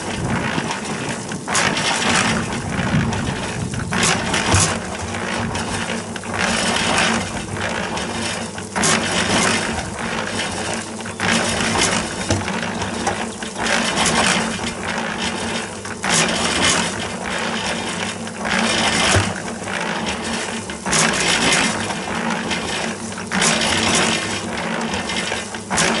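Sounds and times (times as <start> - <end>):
concrete mixer drum rattling: 0.0 - 26.0
motor hum: 0.0 - 26.0.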